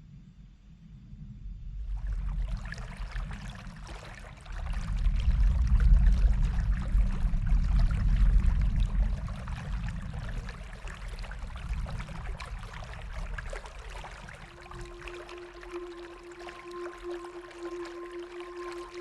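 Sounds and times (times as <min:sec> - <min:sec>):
deep low rumble: 0:00.0 - 0:19.0
stream water trickling: 0:01.8 - 0:19.0.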